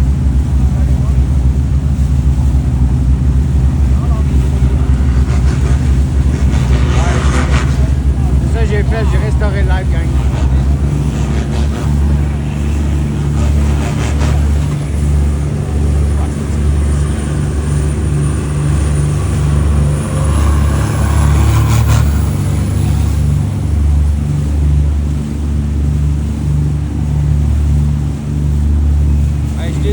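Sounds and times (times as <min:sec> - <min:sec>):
boat engine droning: 0:00.0 - 0:29.9.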